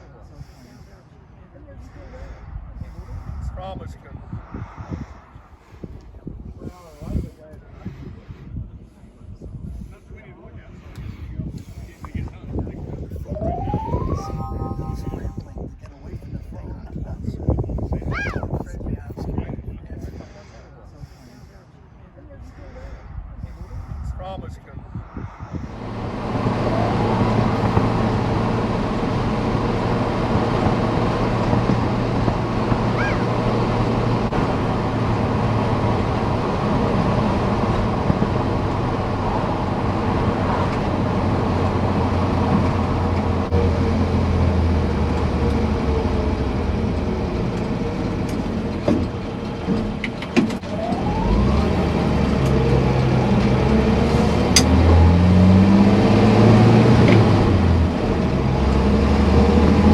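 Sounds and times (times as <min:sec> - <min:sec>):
road noise: 0:00.0 - 0:08.6, 0:20.2 - 0:59.9.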